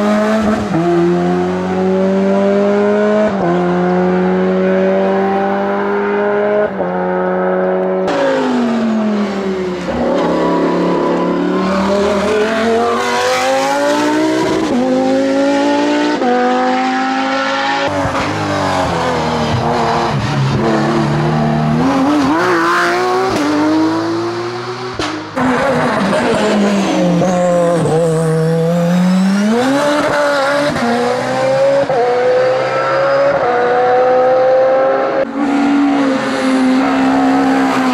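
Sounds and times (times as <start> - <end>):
racing car engines at full throttle: 0.0 - 37.9.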